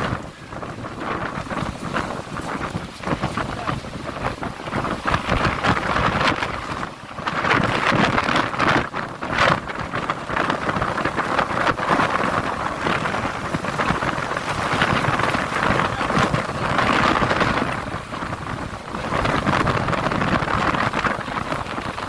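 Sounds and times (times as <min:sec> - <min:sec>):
heavy rain pouring: 0:00.0 - 0:22.0
wind rumble on microphone: 0:00.0 - 0:22.0.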